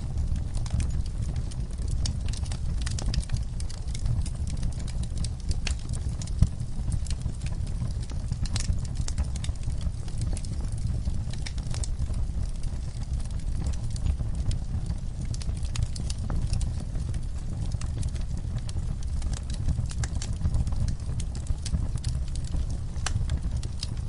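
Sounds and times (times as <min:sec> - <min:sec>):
burning wood crackling: 0:00.0 - 0:24.0
low rumble of flame: 0:00.0 - 0:24.0.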